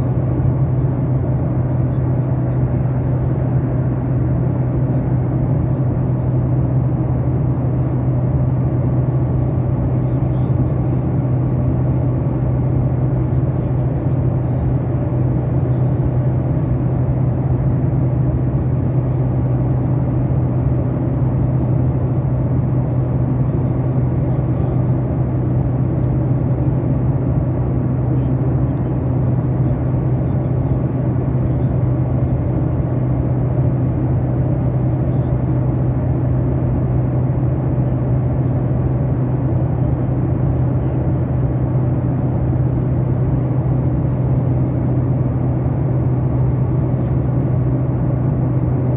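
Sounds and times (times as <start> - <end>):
airliner cabin drone: 0.0 - 48.9.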